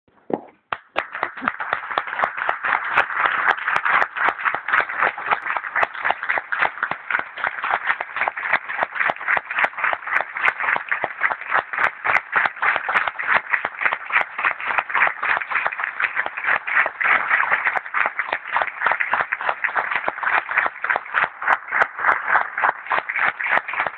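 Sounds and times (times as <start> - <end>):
audience applauding: 0.6 - 23.9.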